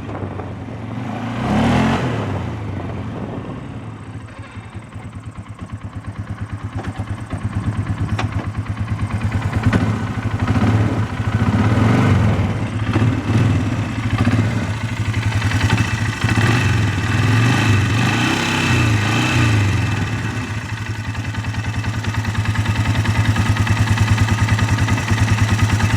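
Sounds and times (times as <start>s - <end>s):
atv engine idling and revving: 0.0s - 25.9s
engine knocking: 4.3s - 25.9s.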